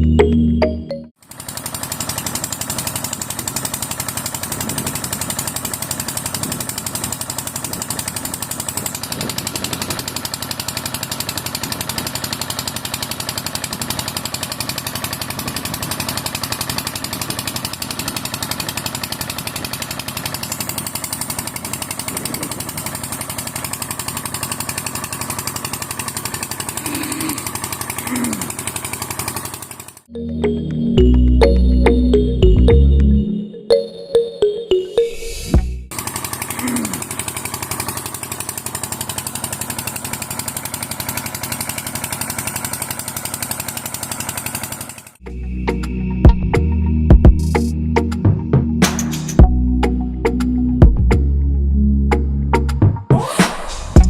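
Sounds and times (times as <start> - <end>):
diesel engine chugging: 0.0 - 33.2, 35.6 - 53.0.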